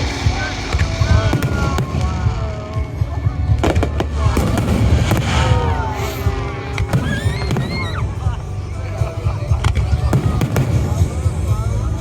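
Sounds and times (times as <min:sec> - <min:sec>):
fireworks sharp cracks: 0:00.0 - 0:11.9
fireworks booming: 0:00.0 - 0:12.0.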